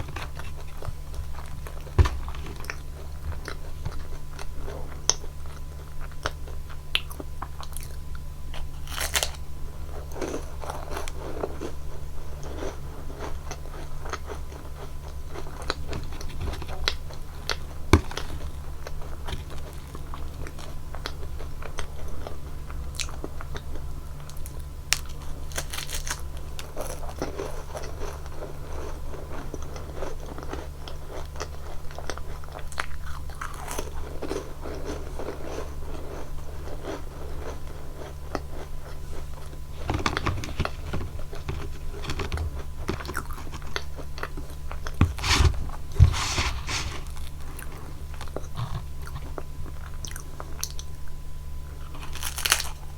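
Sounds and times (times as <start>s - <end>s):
steady low hum: 0.0s - 25.5s, 33.0s - 52.9s
crunching and chewing cookies: 0.0s - 52.9s.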